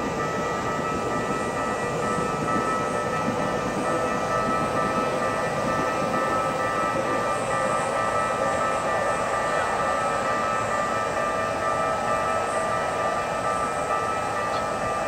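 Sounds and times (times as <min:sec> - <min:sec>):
level-crossing warning bell: 0:00.0 - 0:15.0
train rumbling past: 0:00.0 - 0:15.0.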